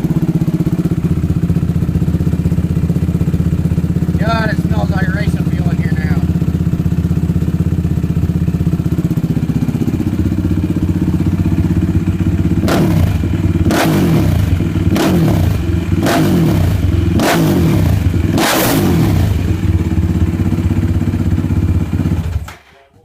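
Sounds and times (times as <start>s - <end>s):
quad engine idling and revving: 0.0s - 22.5s.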